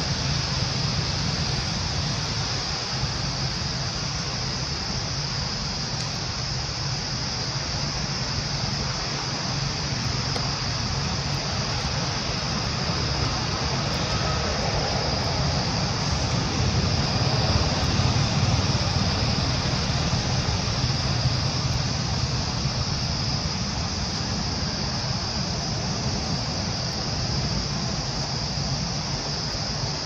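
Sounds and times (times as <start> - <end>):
constant high hiss: 0.0 - 30.0.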